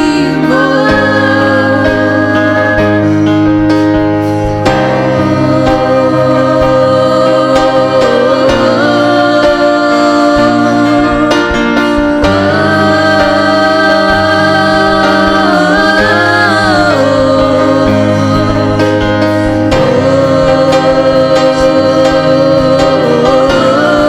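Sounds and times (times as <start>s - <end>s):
slow worship music: 0.0s - 24.0s.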